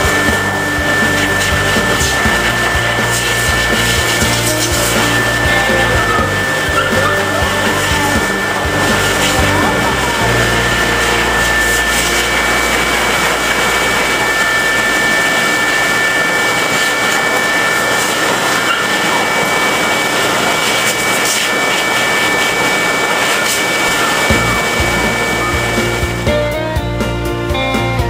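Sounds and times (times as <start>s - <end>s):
dryer blowing air: 0.0s - 27.2s
high whine: 0.0s - 28.0s.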